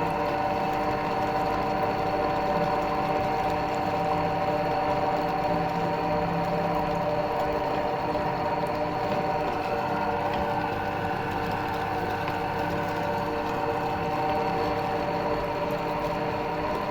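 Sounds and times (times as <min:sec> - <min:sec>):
meat grinder motor whine: 0:00.0 - 0:16.9.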